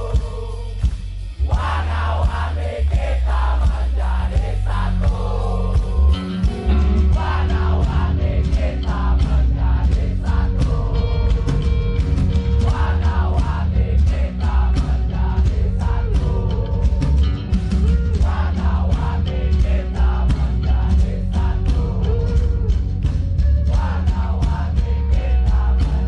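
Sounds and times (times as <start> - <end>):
person singing: 0.0 - 0.8, 1.4 - 11.8, 12.6 - 26.0
rock band playing: 4.6 - 26.0.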